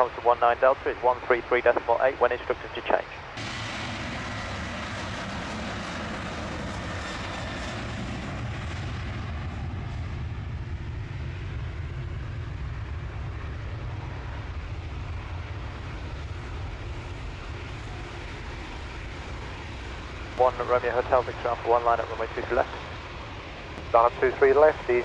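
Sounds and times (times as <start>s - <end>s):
jet engine whine: 0.0s - 25.0s
jet engines rumbling: 0.0s - 25.0s.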